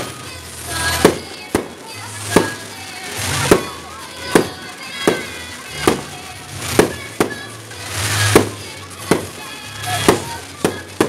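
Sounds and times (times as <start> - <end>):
fireworks bangs: 0.0 - 11.0
music: 0.0 - 11.0.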